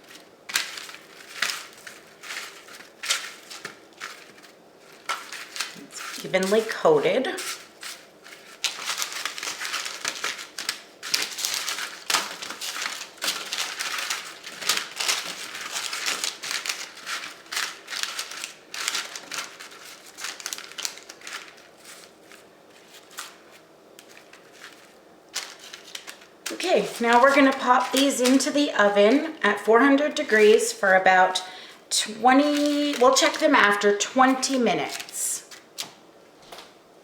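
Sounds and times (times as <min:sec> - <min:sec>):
parchment paper crinkling: 0:00.0 - 0:36.0
vegetables rustling: 0:00.0 - 0:36.0.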